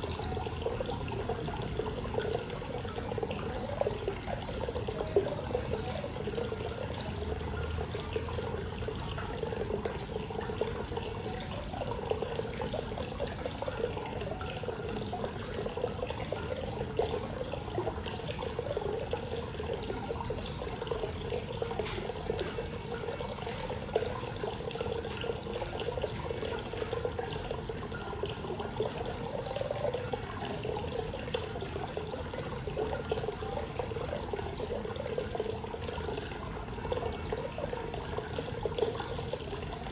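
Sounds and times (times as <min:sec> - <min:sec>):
water pouring into bath: 0:00.0 - 0:39.9.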